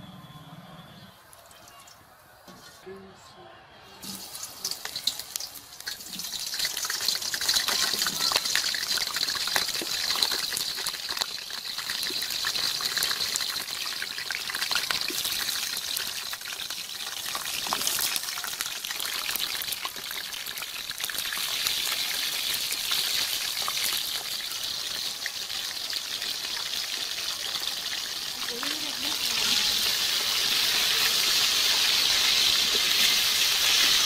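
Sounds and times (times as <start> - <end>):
vegetables sizzling in hot oil: 4.0 - 34.0.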